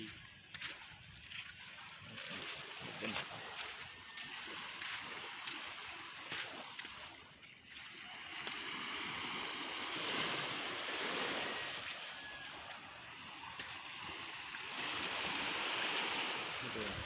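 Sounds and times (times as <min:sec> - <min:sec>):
waves washing onto pebbles: 0:00.0 - 0:17.0.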